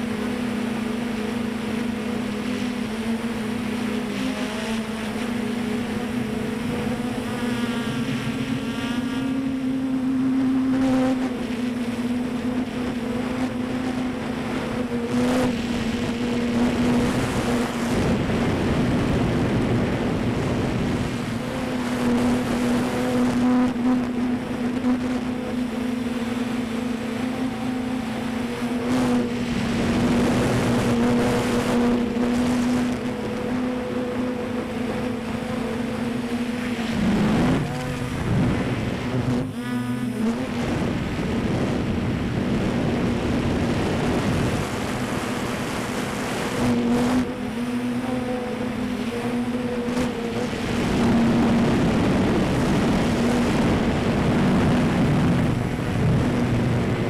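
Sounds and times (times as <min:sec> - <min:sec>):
drone propellers buzzing: 0:00.0 - 0:57.0
wind noise on microphone: 0:00.0 - 0:57.0.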